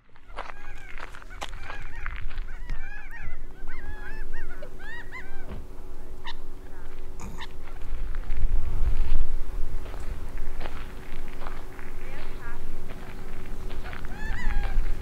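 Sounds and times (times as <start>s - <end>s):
quail calling: 0.0s - 15.0s.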